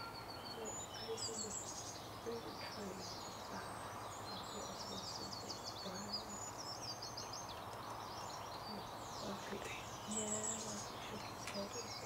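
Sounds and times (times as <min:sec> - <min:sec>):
outdoor background hiss: 0:00.0 - 0:12.0
songbirds chirping and singing: 0:00.0 - 0:12.0.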